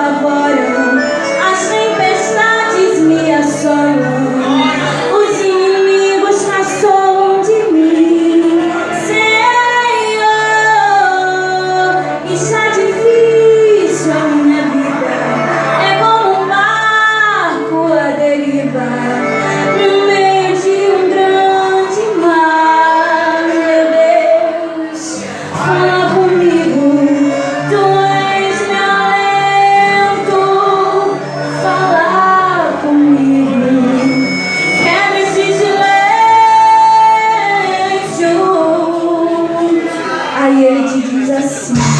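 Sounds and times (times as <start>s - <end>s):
instrumental accompaniment: 0.0s - 41.9s
woman singing worship song: 0.0s - 41.9s.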